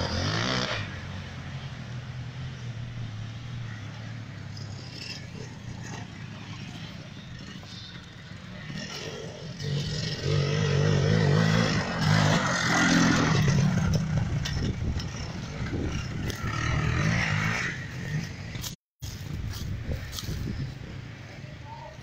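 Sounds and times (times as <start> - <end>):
motorcycle engine revving: 0.0 - 18.8.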